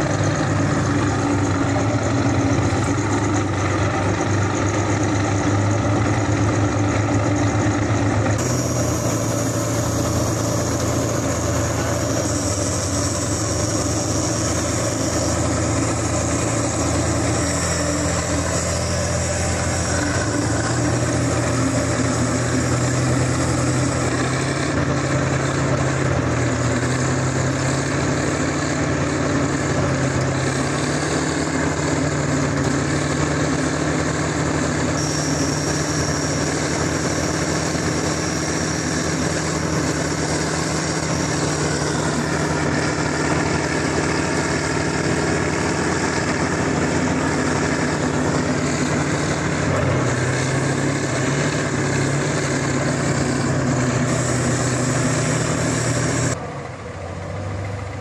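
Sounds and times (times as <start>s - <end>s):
heavy diesel engine drone: 0.0s - 58.0s.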